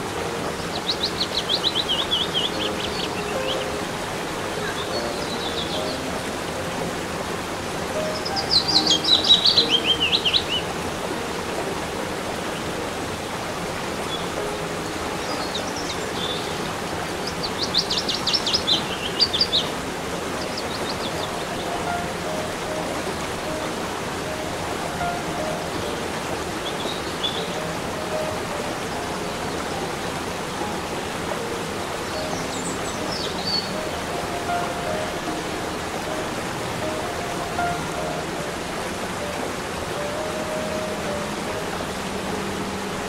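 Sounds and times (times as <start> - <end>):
flowing water: 0.0 - 43.0.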